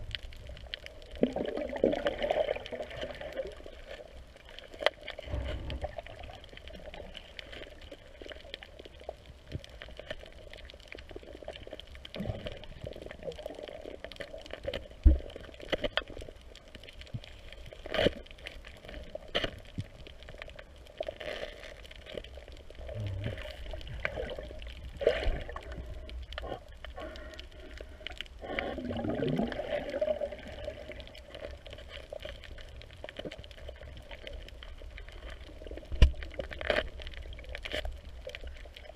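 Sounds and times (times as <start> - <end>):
watery underwater hum: 0.0 - 38.9.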